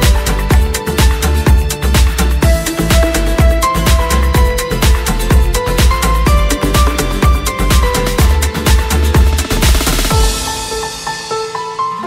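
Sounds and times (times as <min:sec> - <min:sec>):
heavy kick drum: 0:00.0 - 0:11.4
electronic dance music: 0:00.0 - 0:12.0
held keyboard notes: 0:00.0 - 0:12.0.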